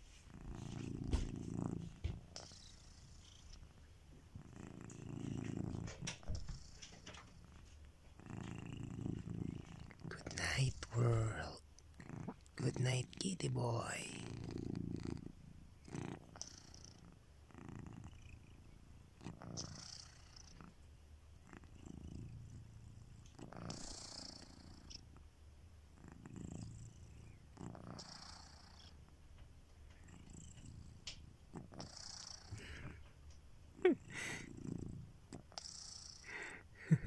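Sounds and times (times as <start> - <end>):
cat snoring softly: 0.0 - 25.2, 25.9 - 29.1, 29.9 - 33.2, 33.8 - 37.0.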